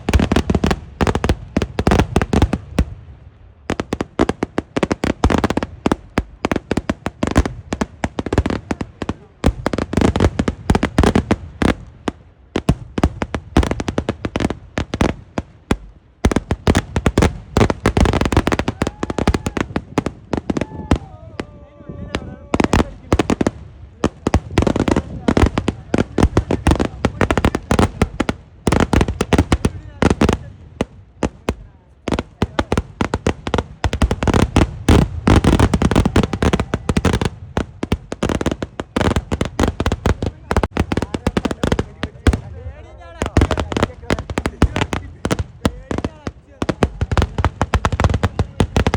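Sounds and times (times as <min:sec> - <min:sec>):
fireworks exploding: 0:00.0 - 0:48.9.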